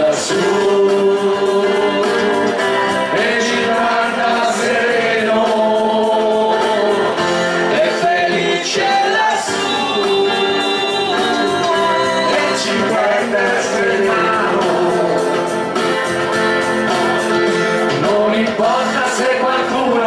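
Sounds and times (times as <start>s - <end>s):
group singing into microphones: 0.0s - 20.0s
keyboard accompaniment: 0.0s - 20.0s.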